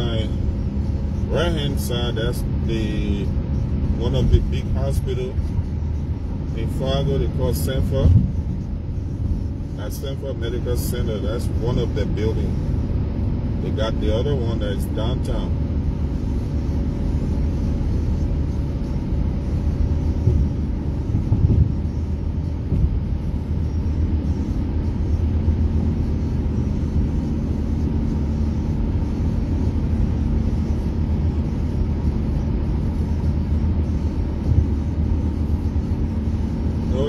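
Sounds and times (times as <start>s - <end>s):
car cabin tyre and engine rumble: 0.0s - 37.0s.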